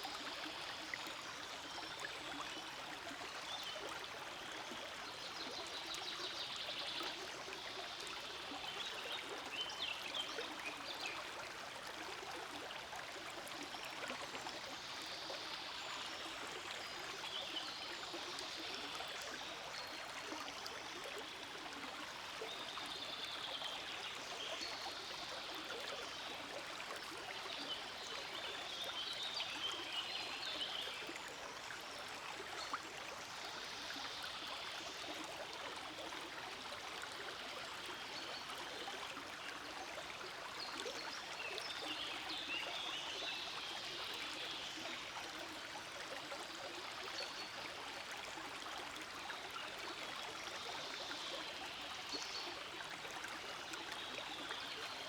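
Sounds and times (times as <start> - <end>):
forest stream babbling: 0.0 - 55.0.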